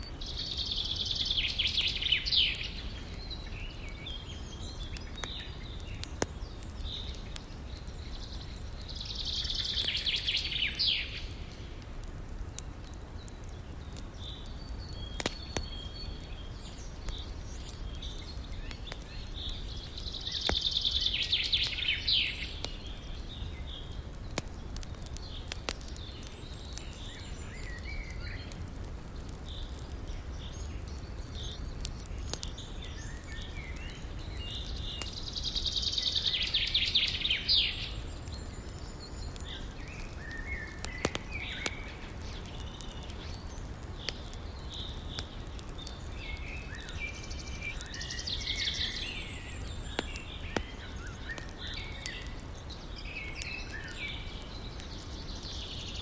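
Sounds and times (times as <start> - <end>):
campfire crackling: 0.0 - 56.0
songbirds singing: 0.0 - 56.0.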